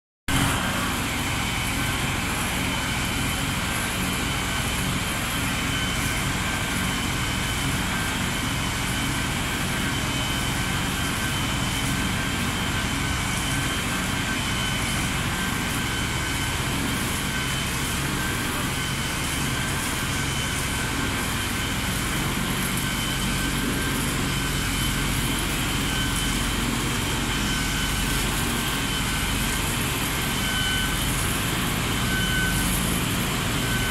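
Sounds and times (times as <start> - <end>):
fire engine running: 0.3 - 33.9
high whine: 0.3 - 33.9.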